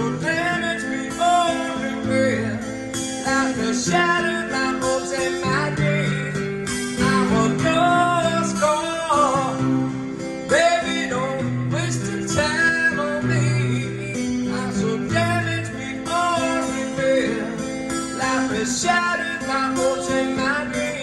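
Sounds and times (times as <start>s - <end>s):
acoustic guitar strumming: 0.0s - 21.0s
man singing a slow ballad: 0.0s - 21.0s.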